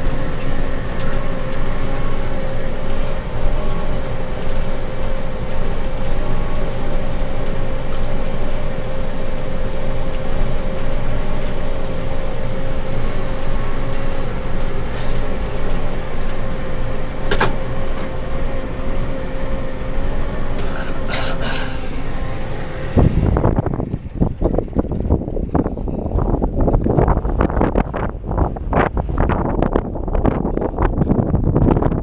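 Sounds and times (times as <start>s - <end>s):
drone motors humming: 0.0s - 32.0s
wind rumbling on microphone: 0.0s - 32.0s.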